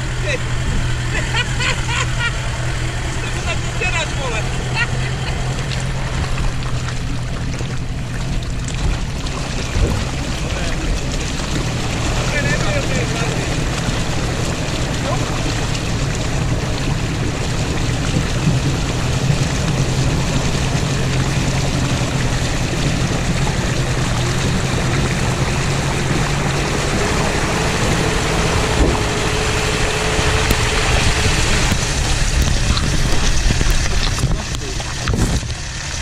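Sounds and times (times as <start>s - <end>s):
vehicle engine running low speed: 0.0s - 36.0s
water rushing and splashing: 0.0s - 36.0s.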